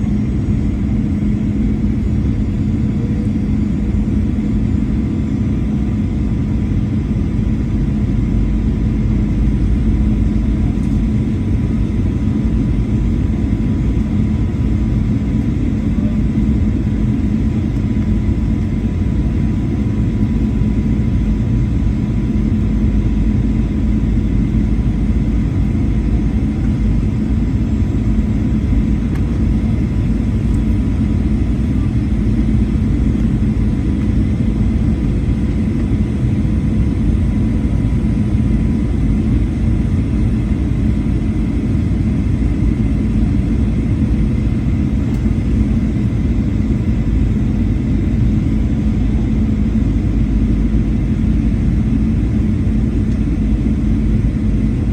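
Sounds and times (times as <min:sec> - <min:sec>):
faint steady whine: 0:00.0 - 0:54.9
jet engines rumbling: 0:00.0 - 0:54.9.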